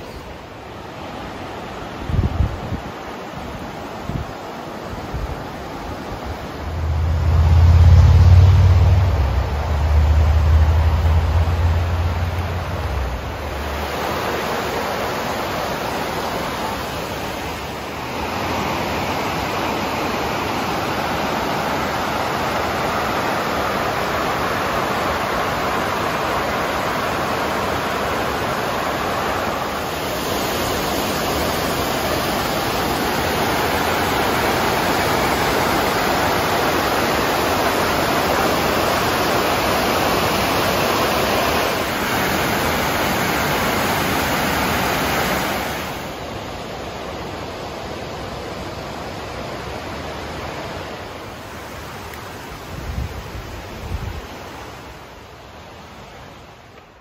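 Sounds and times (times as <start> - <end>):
rushing river rapids and waterfall: 0.0 - 57.0.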